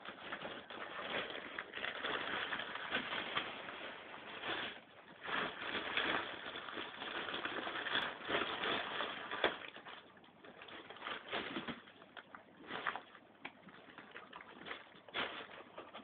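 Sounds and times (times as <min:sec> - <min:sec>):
rubbish rustling in plastic wastebasket: 0:00.0 - 0:16.0.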